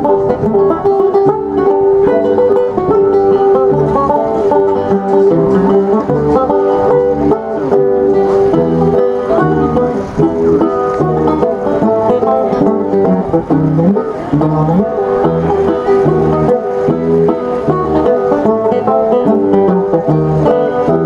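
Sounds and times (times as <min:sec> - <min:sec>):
banjo ensemble playing: 0:00.0 - 0:21.0.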